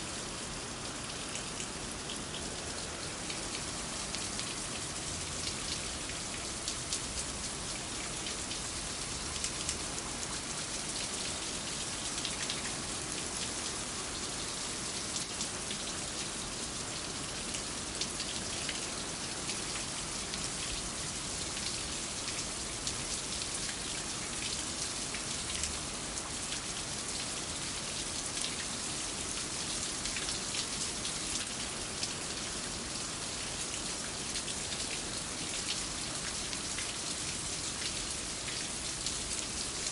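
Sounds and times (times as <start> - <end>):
steady rain falling: 0.0 - 39.9
raindrops ticking on hard surfaces: 0.8 - 39.9.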